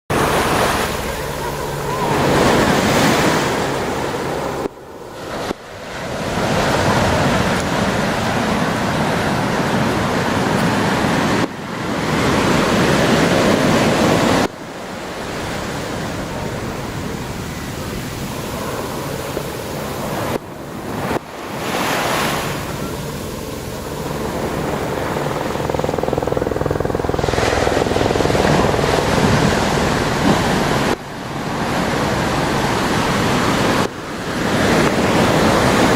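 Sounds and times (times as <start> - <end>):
ocean surf washing on beach: 0.1 - 35.9
wind buffeting microphone: 0.1 - 35.9.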